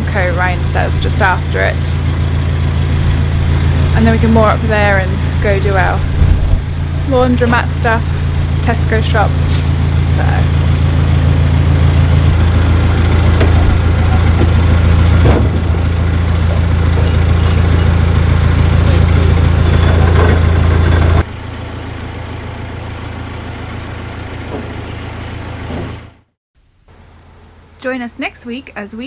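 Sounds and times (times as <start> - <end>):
diesel engine humming: 0.0 - 26.3.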